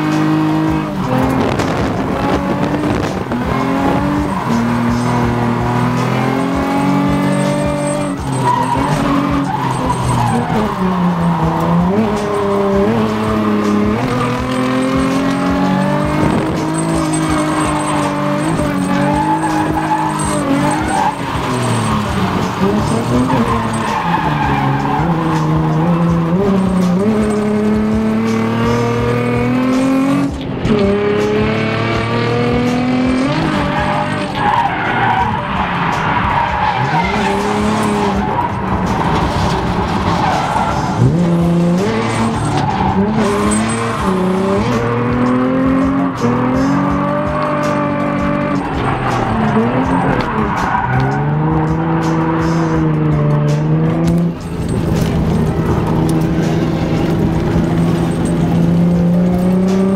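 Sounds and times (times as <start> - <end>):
car engine revving hard: 0.0 - 59.9
tyres skidding and squealing: 0.0 - 59.9.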